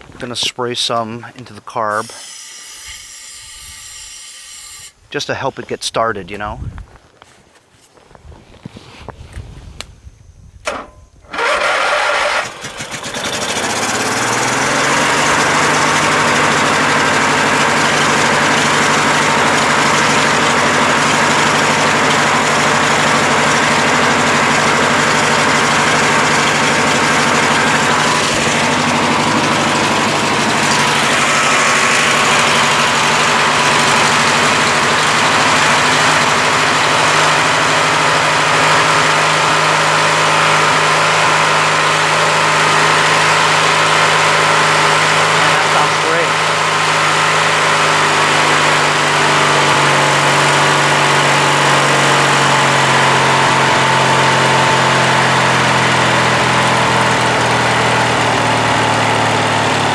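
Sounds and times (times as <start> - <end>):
lawn tractor engine cranking and running: 10.6 - 59.9.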